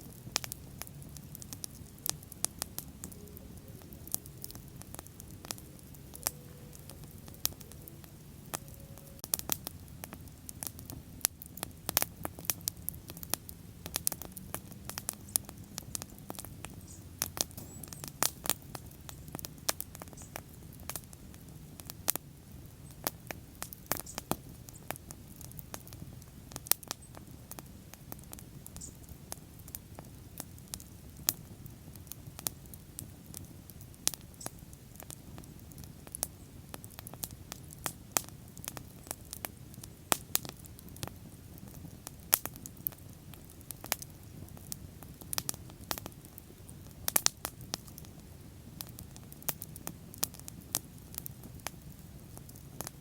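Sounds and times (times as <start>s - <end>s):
bonfire crackling: 0.0s - 53.0s.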